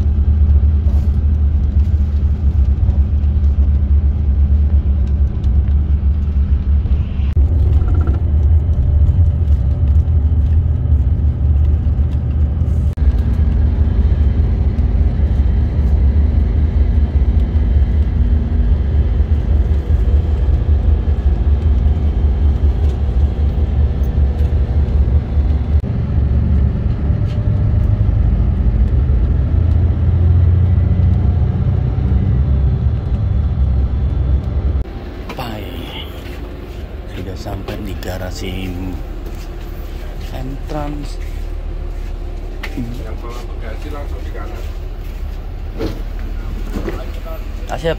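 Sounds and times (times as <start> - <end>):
bus engine and road rumble: 0.0 - 47.9
faint engine tones: 0.0 - 47.9.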